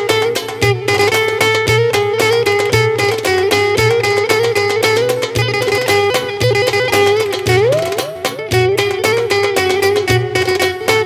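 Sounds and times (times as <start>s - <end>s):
plucked-string folk dance tune: 0.0s - 11.0s.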